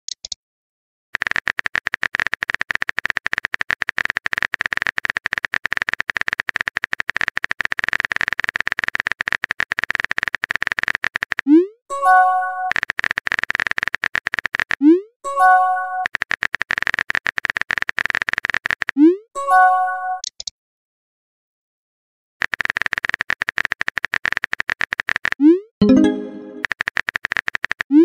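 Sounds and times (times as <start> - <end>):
keyboard typing clicks: 0.1 - 0.4, 1.2 - 14.8, 15.4 - 19.0, 22.4 - 28.0.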